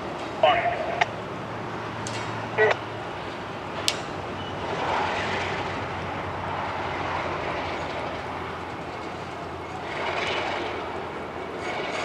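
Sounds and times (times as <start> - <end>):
diesel locomotive running: 0.0 - 12.0
freight cars rolling on rails: 0.0 - 12.0.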